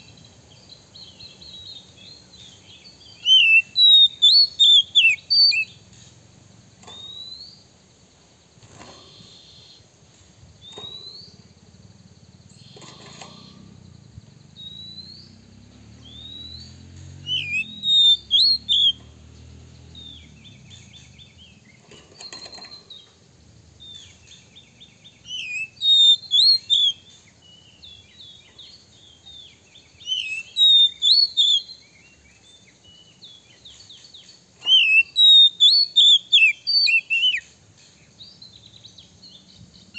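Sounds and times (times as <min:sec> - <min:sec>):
bird singing whistles and clicks: 0:00.0 - 0:06.1, 0:06.8 - 0:07.6, 0:10.6 - 0:11.5, 0:12.5 - 0:13.8, 0:14.5 - 0:23.2, 0:23.8 - 0:39.9.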